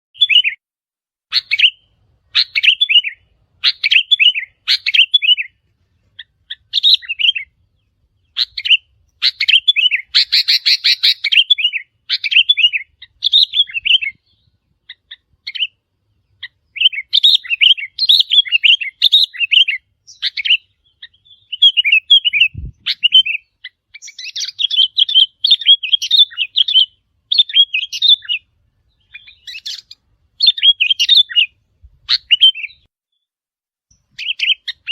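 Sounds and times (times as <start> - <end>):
bulbul song: 0.1 - 0.6, 1.3 - 32.9.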